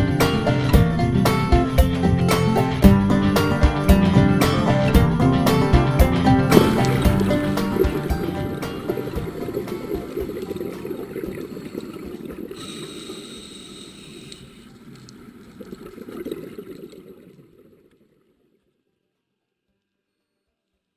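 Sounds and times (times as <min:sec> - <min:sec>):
water gurgling and sloshing: 0:00.0 - 0:18.8.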